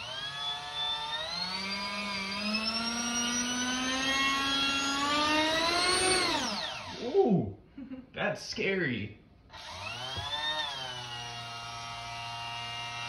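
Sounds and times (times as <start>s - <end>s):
high-pitched motor whine: 0.0s - 7.2s, 9.5s - 13.0s.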